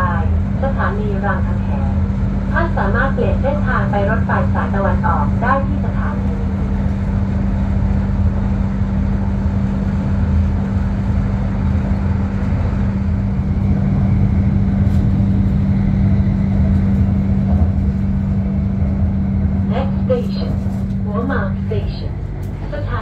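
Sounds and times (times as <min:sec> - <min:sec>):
train rumbling with low hum: 0:00.0 - 0:23.0.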